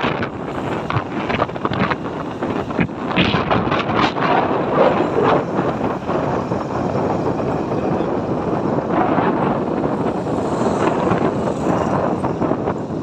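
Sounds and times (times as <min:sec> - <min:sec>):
vehicle road and engine noise: 0:00.0 - 0:13.0
wind rushing over microphone: 0:00.0 - 0:13.0.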